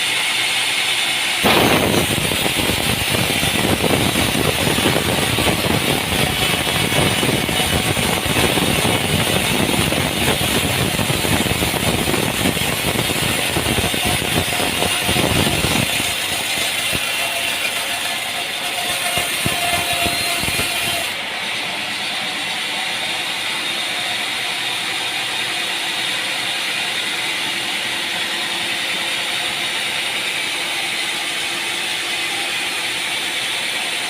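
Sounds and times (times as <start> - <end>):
sawmill machinery rattling: 0.0 - 34.0.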